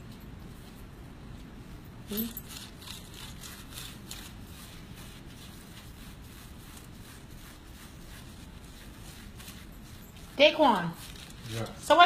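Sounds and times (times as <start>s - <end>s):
low room hum: 0.0s - 12.0s
aluminium foils rustling: 2.1s - 12.0s.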